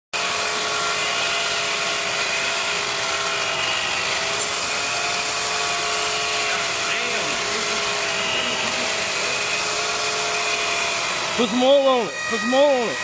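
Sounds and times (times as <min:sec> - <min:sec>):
pipe-threading machine whining: 0:00.2 - 0:13.0.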